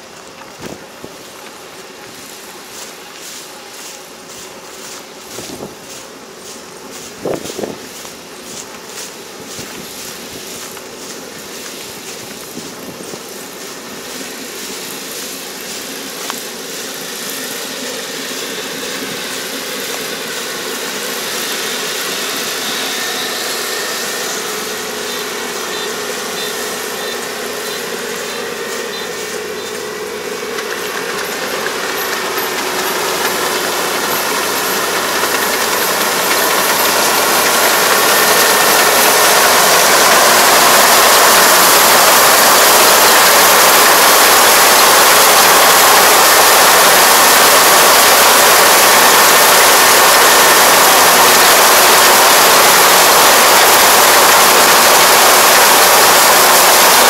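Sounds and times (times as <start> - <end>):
combine harvester engine and machinery: 0.0 - 57.0.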